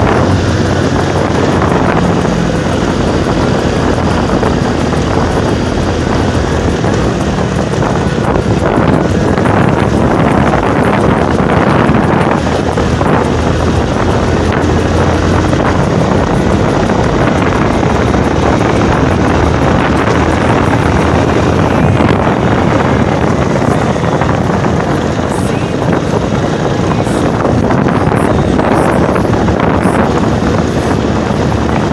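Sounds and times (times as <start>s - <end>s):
motorcycle engine running: 0.0s - 31.9s
wind buffeting microphone: 0.0s - 31.9s.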